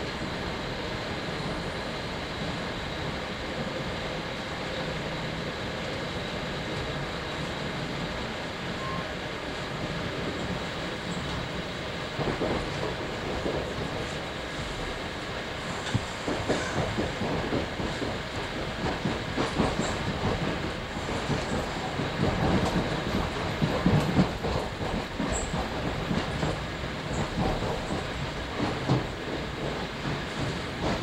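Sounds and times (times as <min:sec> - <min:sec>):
train rumble inside passenger car: 0:00.0 - 0:31.0.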